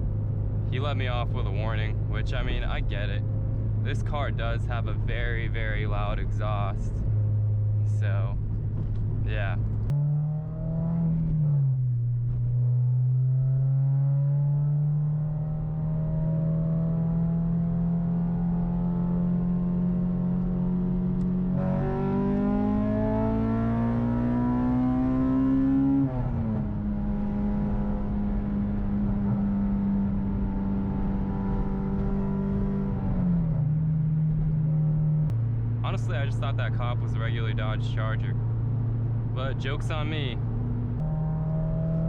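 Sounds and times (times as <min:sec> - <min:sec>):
car engine through loud exhaust: 0:00.0 - 0:42.0.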